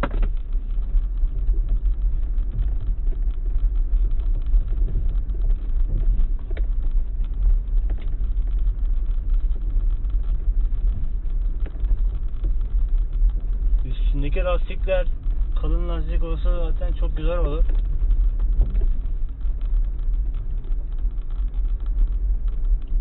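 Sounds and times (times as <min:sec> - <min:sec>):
low rumble of tyres on dirt track: 0:00.0 - 0:23.0
sharp knocks and rattles: 0:00.0 - 0:23.0.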